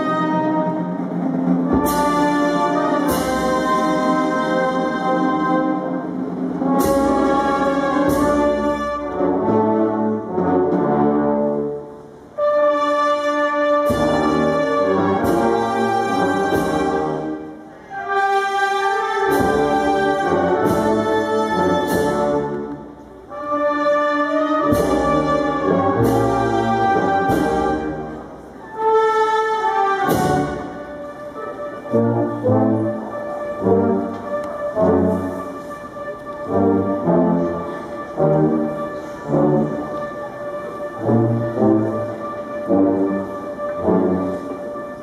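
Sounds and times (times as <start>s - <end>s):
brass band playing solemn march: 0.0s - 45.0s.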